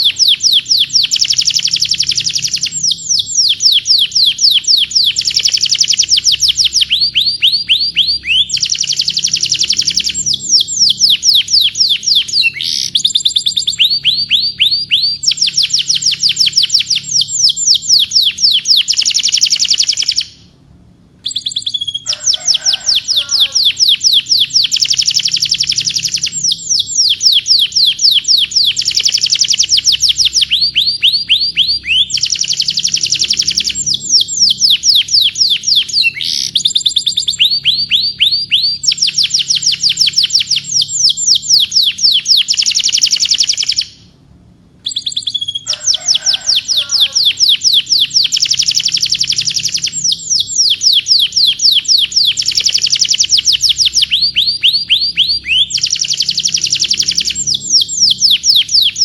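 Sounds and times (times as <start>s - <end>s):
canary singing trills: 0.0s - 20.6s, 21.2s - 44.1s, 44.8s - 59.0s.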